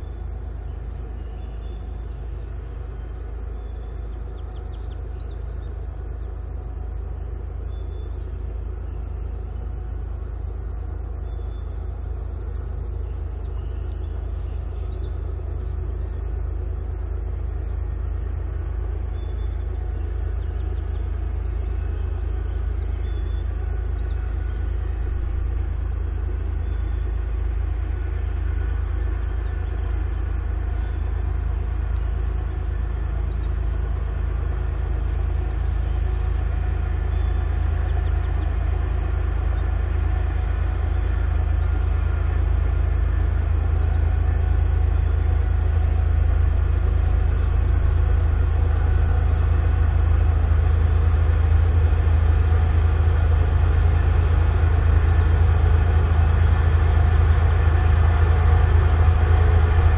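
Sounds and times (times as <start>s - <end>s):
diesel locomotive engine drone: 0.0s - 59.9s.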